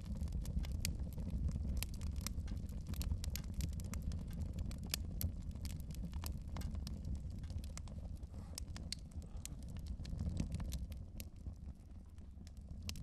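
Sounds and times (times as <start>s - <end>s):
sharp crackles and clicks: 0.0s - 13.0s.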